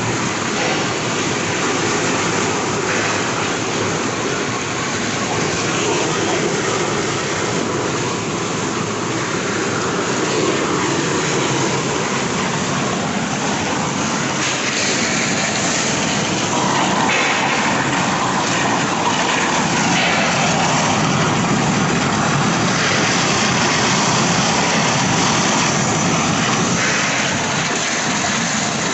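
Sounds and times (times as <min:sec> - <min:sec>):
heavy rain: 0:00.0 - 0:28.9
water gushing into drain: 0:00.0 - 0:28.9.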